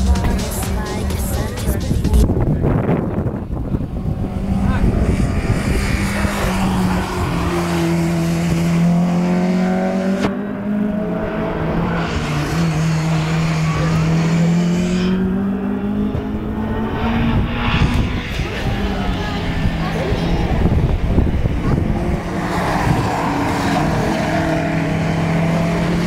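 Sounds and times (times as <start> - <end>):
racing car engine accelerating: 0.0 - 26.0.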